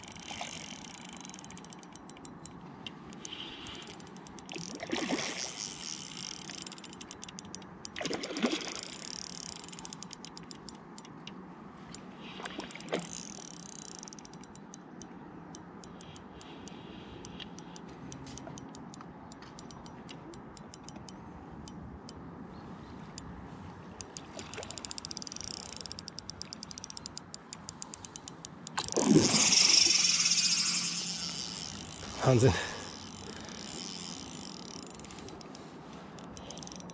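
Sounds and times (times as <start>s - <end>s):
fishing reel drag clicking: 0.0s - 22.2s, 24.0s - 36.9s.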